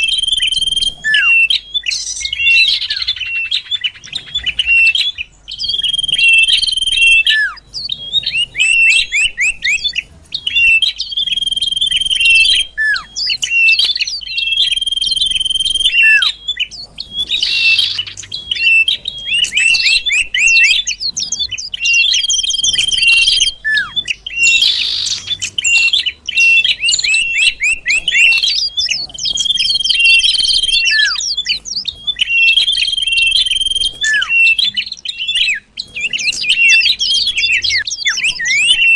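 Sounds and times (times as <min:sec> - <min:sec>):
bird whistling and chirping: 0:00.0 - 0:38.9.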